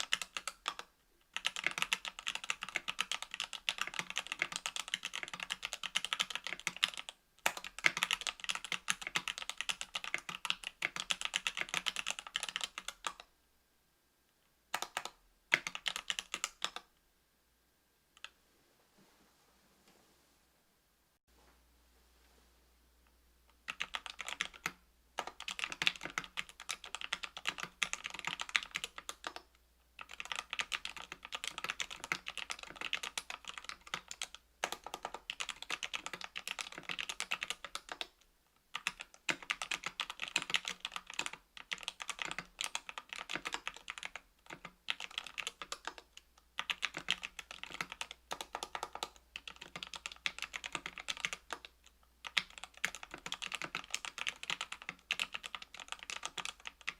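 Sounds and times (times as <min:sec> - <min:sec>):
mechanical keyboard typing: 0:00.0 - 0:13.3, 0:14.7 - 0:16.9, 0:23.7 - 0:29.4, 0:30.0 - 0:38.1, 0:38.7 - 0:56.9.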